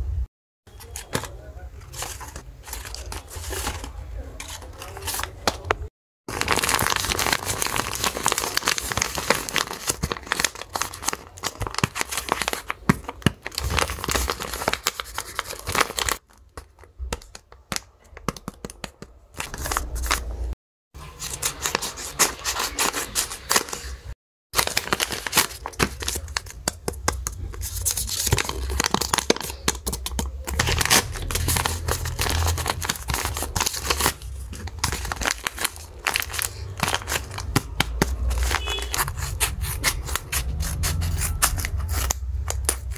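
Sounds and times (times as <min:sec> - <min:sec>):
paper crinkling and ripping: 0:00.7 - 0:17.4, 0:19.4 - 0:24.0, 0:24.6 - 0:26.6, 0:27.4 - 0:42.9.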